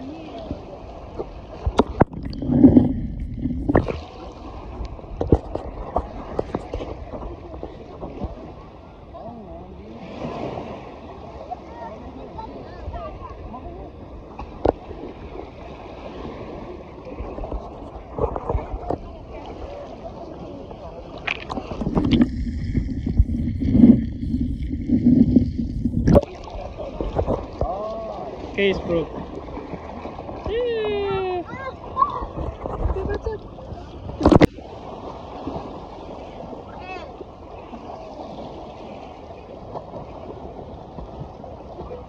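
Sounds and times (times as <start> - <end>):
water splash: 0.0 - 8.6, 14.3 - 42.0
muffled underwater rumbling: 0.0 - 9.2, 12.9 - 37.9.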